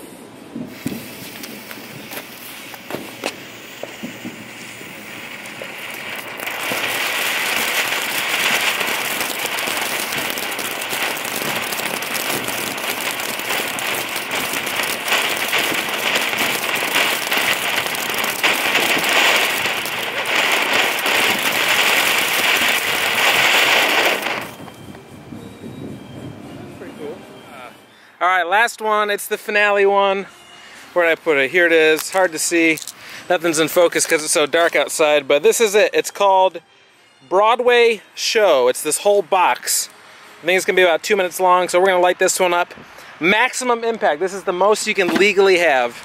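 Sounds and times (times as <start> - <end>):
firework fuse fizzing: 0.0 - 27.8, 30.8 - 36.5, 37.4 - 46.0
firework fountain hissing and crackling: 0.0 - 36.5, 37.4 - 46.0.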